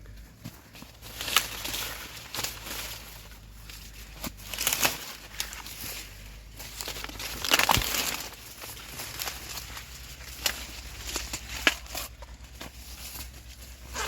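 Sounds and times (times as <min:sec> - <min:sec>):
dry corn leaves rustling: 0:00.0 - 0:14.0
corn ears snapping off: 0:00.4 - 0:14.0.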